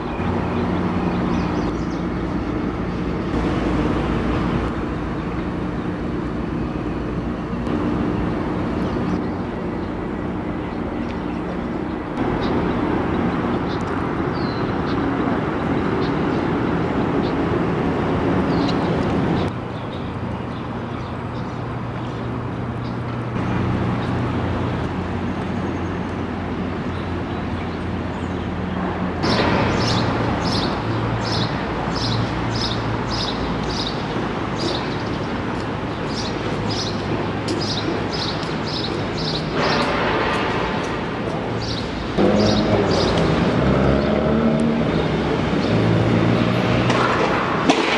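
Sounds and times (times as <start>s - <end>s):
building machinery hum: 0.0s - 47.9s
low hum of traffic: 0.0s - 47.9s.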